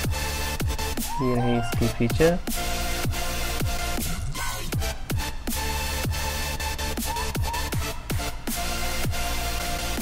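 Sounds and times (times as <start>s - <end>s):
electronic music with deep beat: 0.0s - 10.0s.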